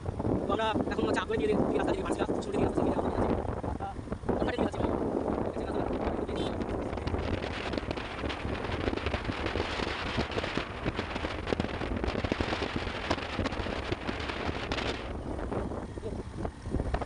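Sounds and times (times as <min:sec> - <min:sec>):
motorcycle ride rumble: 0:00.0 - 0:17.0
wind rushing over microphone: 0:00.0 - 0:17.0.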